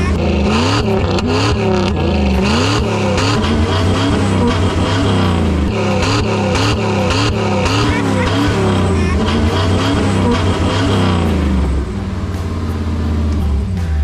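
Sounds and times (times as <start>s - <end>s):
car engines revving: 0.0s - 14.0s
steady low drone: 0.0s - 14.0s.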